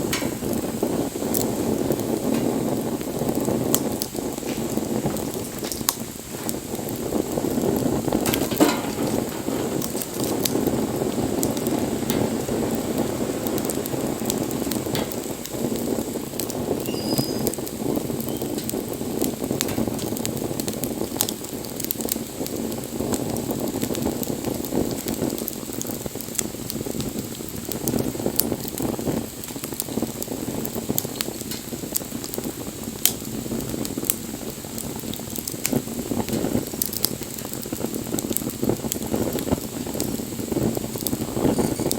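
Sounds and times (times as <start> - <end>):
bonfire crackling and popping: 0.0 - 41.9.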